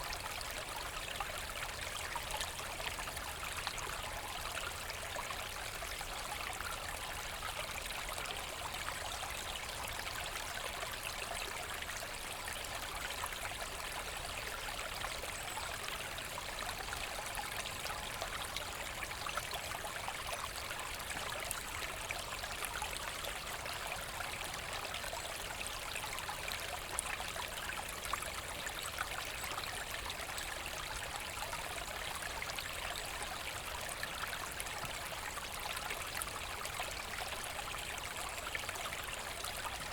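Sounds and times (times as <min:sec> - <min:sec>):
brook flowing over stones: 0:00.0 - 0:39.9.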